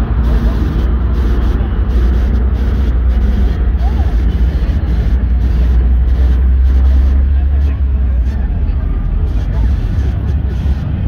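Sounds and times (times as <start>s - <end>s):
deep car engine rumble: 0.0s - 11.0s.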